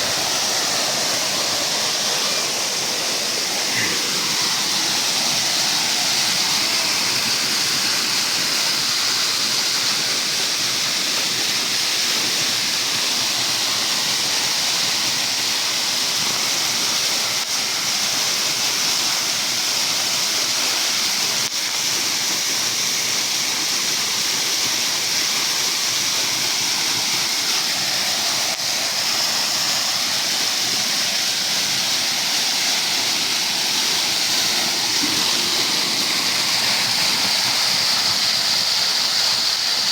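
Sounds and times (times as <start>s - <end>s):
waterfall pouring into pool: 0.0s - 39.9s.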